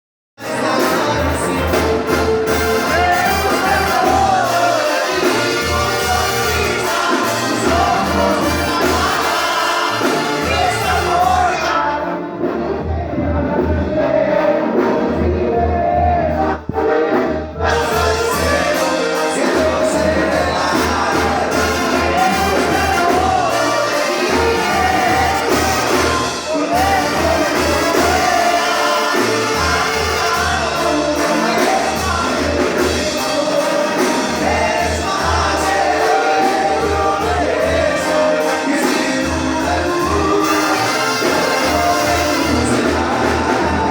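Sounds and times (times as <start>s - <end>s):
brass band playing: 0.4s - 43.9s.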